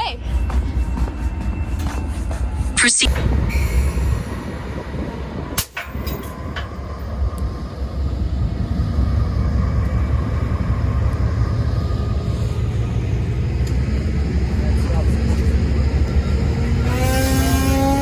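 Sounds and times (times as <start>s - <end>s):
diesel locomotive rumble: 0.0s - 18.0s.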